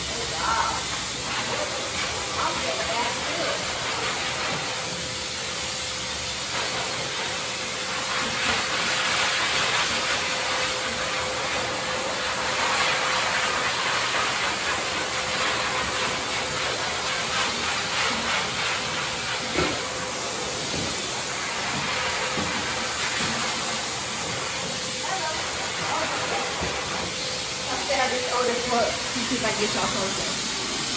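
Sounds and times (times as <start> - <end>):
pet dryer blowing air: 0.0 - 30.9.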